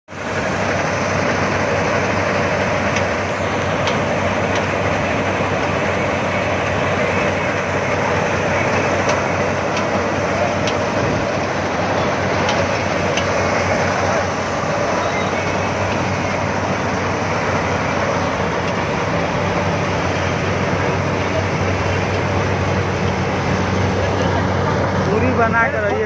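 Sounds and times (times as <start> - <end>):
combine harvester running: 0.1 - 26.0.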